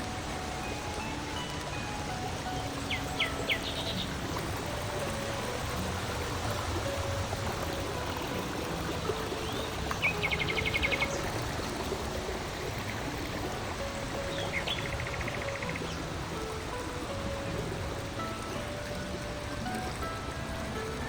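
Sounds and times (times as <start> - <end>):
soft background music: 0.0 - 21.0
songbird trill: 0.0 - 21.0
stream water rushing: 0.0 - 21.0.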